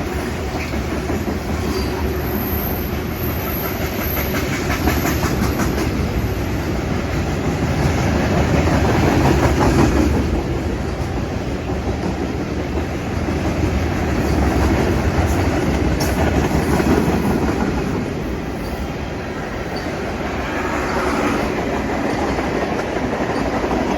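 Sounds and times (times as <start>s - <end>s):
freight train wheels clacking: 0.0s - 23.9s.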